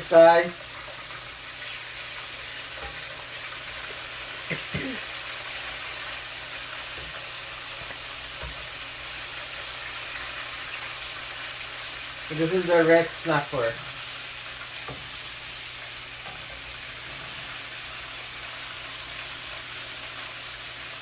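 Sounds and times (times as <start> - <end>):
fish sizzling in frying oil: 0.0 - 21.0.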